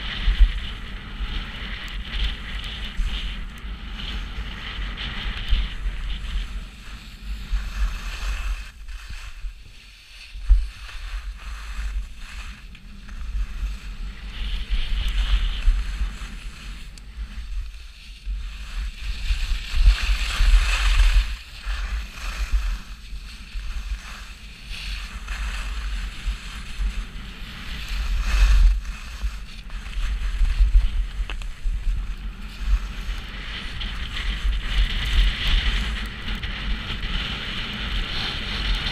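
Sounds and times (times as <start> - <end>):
skis scraping over snow: 0.0 - 38.9
wind buffeting microphone: 0.0 - 38.9.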